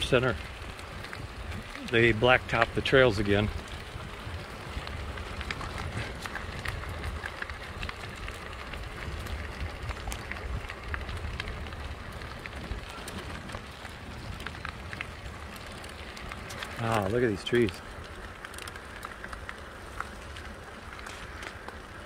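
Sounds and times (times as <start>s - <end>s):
grit ticking under wheels: 0.0s - 22.0s
tyres rolling on rough asphalt: 0.0s - 22.0s.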